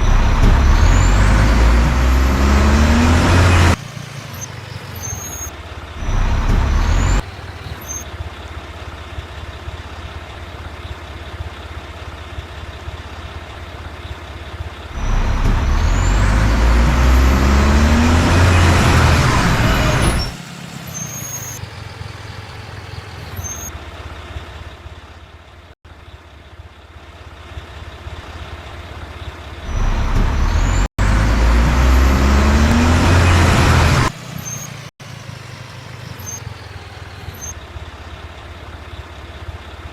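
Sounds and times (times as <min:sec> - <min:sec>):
garbage truck diesel engine revving: 0:00.0 - 0:25.8, 0:27.3 - 0:39.9.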